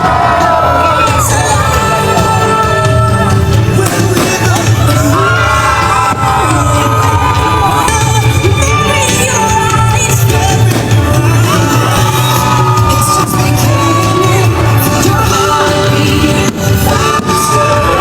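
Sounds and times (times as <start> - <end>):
loud music with bass pulse: 0.0 - 18.0.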